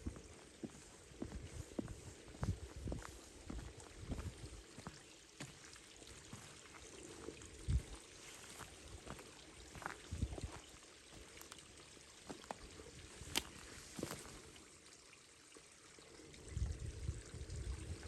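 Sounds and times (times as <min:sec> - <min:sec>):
water trickling and pouring: 0:00.0 - 0:18.0.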